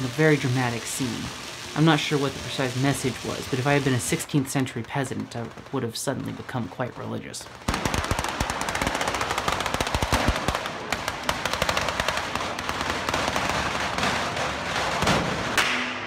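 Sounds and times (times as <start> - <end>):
fireworks banging: 0.0 - 16.0.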